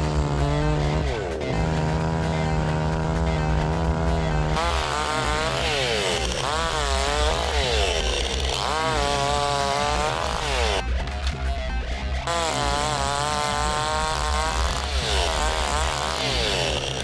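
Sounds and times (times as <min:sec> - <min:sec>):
chainsaw cutting a log: 0:00.0 - 0:17.0.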